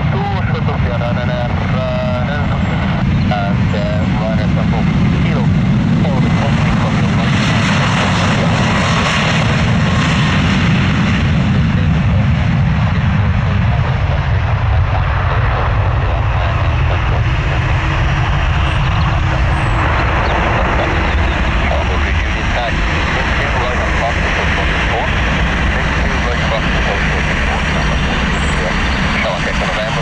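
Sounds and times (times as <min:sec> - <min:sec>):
jet engines roaring on takeoff: 0:00.0 - 0:30.0.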